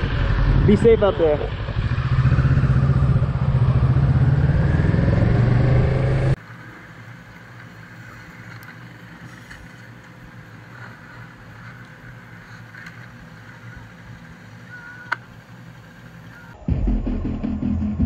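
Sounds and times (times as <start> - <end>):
low hum: 0.0 - 18.0
motorcycle engine running: 0.0 - 18.0.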